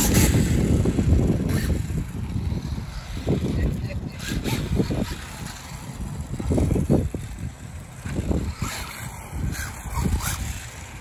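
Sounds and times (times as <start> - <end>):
toy truck motor and tyres on asphalt: 0.0 - 11.0.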